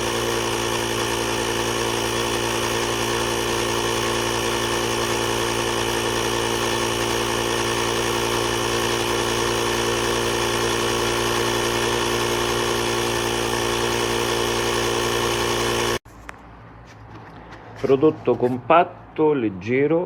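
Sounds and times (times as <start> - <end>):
electric air compressor humming: 0.0 - 16.1.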